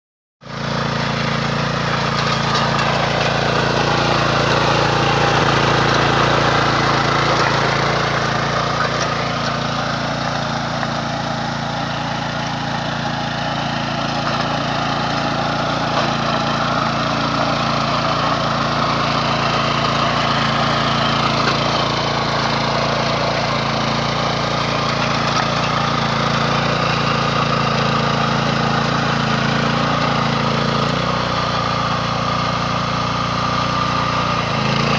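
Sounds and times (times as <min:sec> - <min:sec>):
tiller engine running: 0:00.4 - 0:34.9.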